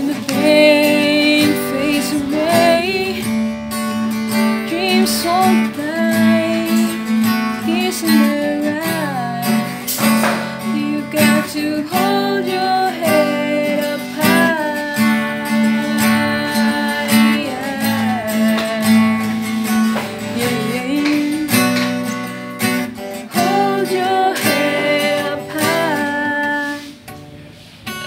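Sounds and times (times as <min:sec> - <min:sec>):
person singing: 0:00.0 - 0:22.2, 0:23.3 - 0:27.1
acoustic guitar strumming: 0:00.0 - 0:28.0.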